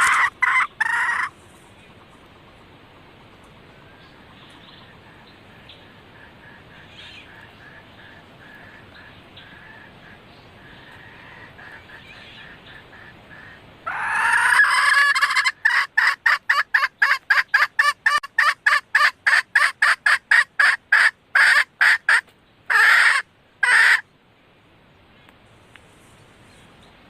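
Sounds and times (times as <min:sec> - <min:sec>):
junglefowl hen calling: 0:00.0 - 0:24.1.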